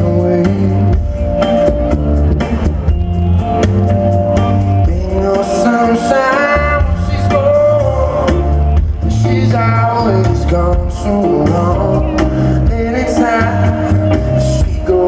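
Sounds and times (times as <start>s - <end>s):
live band playing soul-blues: 0.0s - 15.0s
wavering lead melody: 0.0s - 15.0s.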